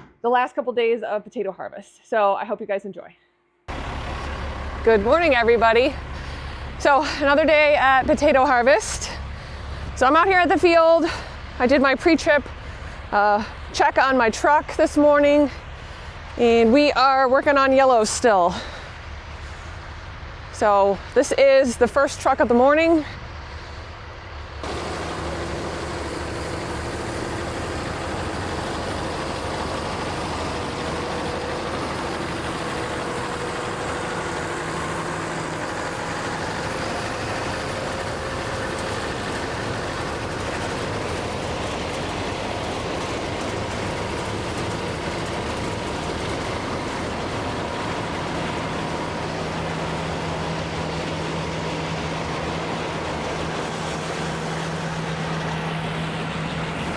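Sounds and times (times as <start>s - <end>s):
machinery engine drone: 3.7s - 56.9s.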